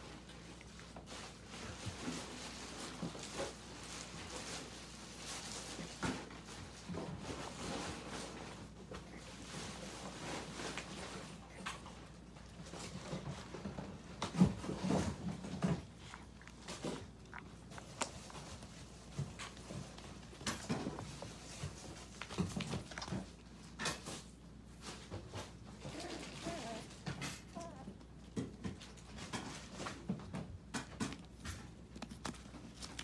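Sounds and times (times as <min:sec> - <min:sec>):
paws pattering: 0:00.0 - 0:33.0
puppies chewing food: 0:00.0 - 0:33.0.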